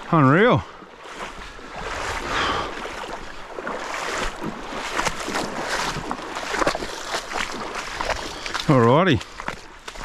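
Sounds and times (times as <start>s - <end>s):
shallow water splashing: 0.0s - 10.0s.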